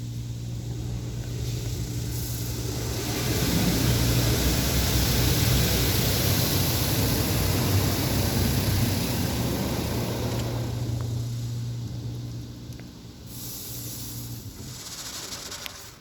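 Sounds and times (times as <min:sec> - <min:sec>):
low machine hum: 0:00.0 - 0:14.9
water spray hissing: 0:00.1 - 0:11.5, 0:13.2 - 0:16.0.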